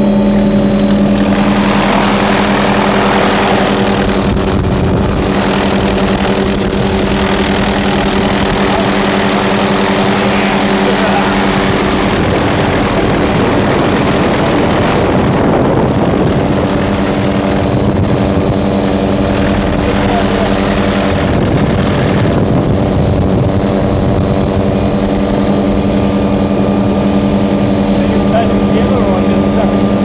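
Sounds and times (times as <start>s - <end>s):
engine droning hum: 0.0s - 30.0s
dense rushing noise: 0.4s - 30.0s.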